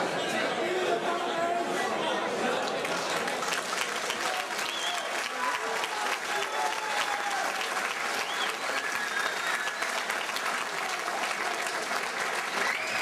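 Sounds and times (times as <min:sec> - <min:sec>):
crowd applauding: 0:02.6 - 0:13.0.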